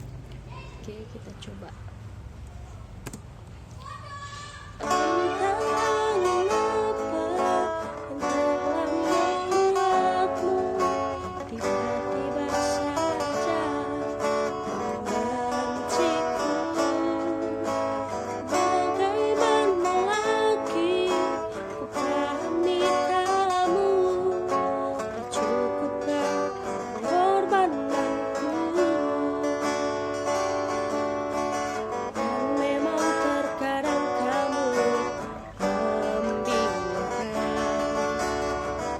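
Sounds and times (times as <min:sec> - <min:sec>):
acoustic guitar: 0:03.7 - 0:38.9
woman singing: 0:04.8 - 0:30.8, 0:32.1 - 0:38.9.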